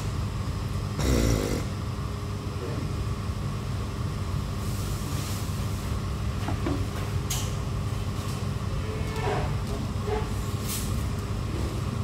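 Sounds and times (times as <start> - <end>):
restaurant room rumble: 0.0 - 12.0.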